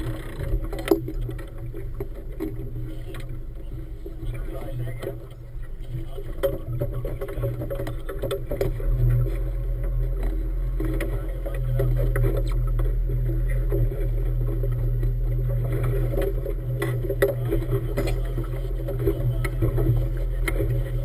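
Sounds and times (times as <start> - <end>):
motorboat engine humming: 0.0 - 21.0
water slapping against hull: 0.0 - 21.0.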